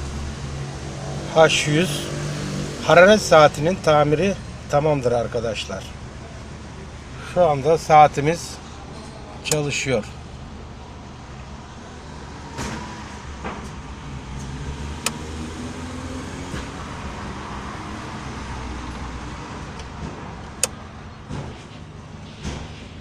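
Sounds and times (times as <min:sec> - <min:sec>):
van engine running: 0:00.0 - 0:23.0.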